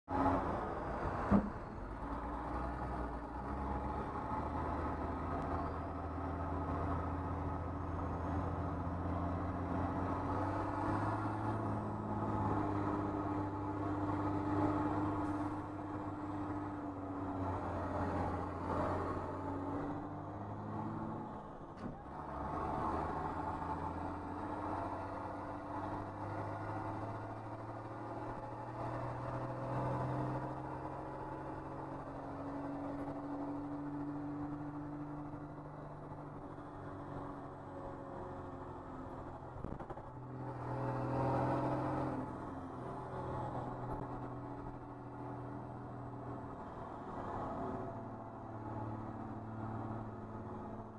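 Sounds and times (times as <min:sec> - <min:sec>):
bus engine hum: 0:00.0 - 0:50.9.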